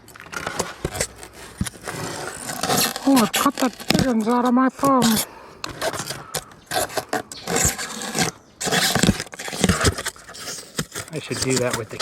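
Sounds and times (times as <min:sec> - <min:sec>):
hands scraping and knocking objects: 0:00.0 - 0:12.0.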